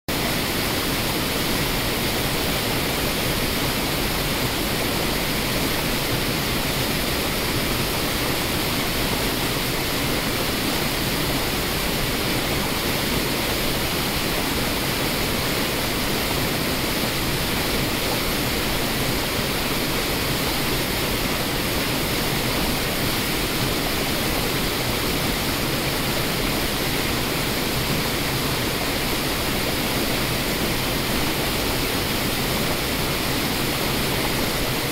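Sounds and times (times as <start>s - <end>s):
rushing white water: 0.1s - 34.9s.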